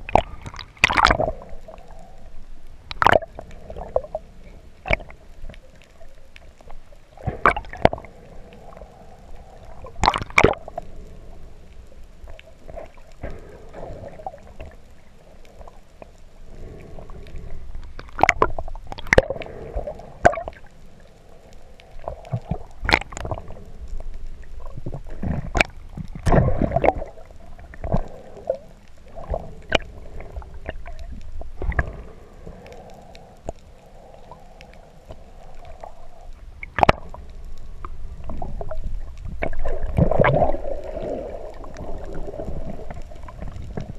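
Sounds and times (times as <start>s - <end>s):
muffled underwater wash: 0.0s - 43.9s.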